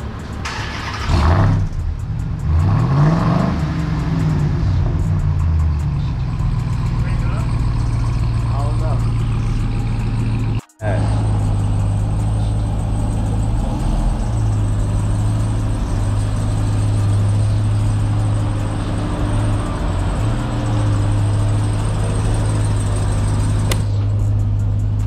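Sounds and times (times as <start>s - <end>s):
engine running low hum: 0.0s - 25.0s.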